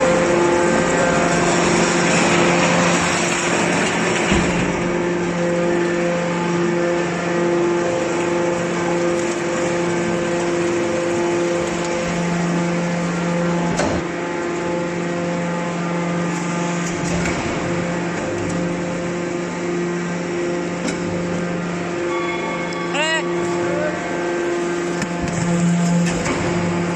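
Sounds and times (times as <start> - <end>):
hydraulic pump humming: 0.0 - 26.9.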